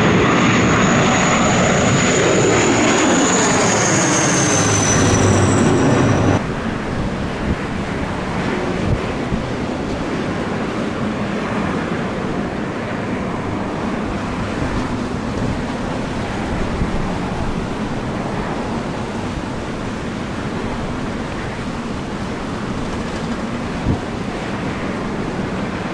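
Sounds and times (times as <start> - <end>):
strong gusty wind on microphone: 0.0 - 25.9.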